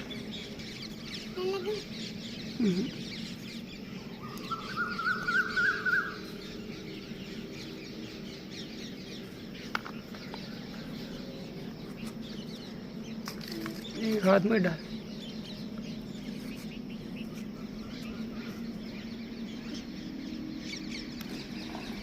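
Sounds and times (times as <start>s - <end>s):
faint bird chirps: 0.0s - 22.0s
steady low hum: 0.0s - 22.0s.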